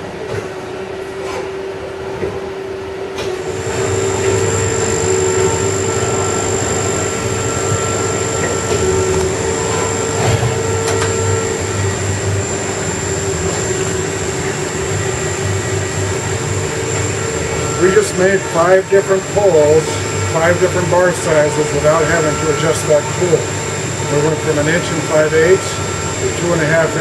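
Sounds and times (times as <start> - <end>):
high machine whine: 2.1 - 27.0
lathe machine noise: 3.3 - 27.0.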